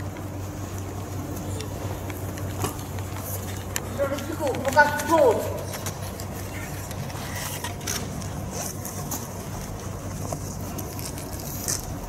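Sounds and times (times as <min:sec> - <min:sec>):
faint clicks and rustles: 0:00.0 - 0:12.0
steady low hum: 0:00.0 - 0:12.0.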